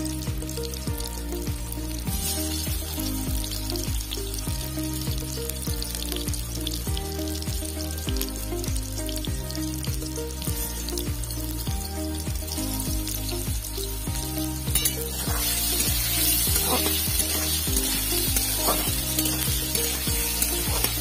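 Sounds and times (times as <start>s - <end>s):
background music with beat: 0.0s - 21.0s
potatoes sizzling in hot oil: 0.0s - 21.0s.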